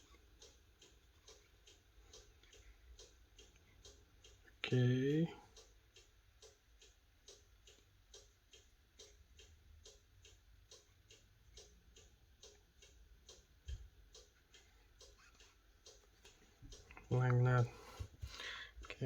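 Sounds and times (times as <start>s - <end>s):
faint even ticking: 0.0s - 19.0s.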